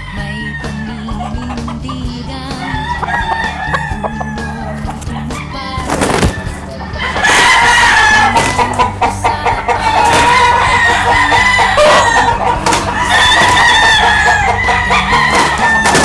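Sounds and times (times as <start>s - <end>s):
background music: 0.0s - 16.0s
roosters crowing: 0.0s - 16.0s.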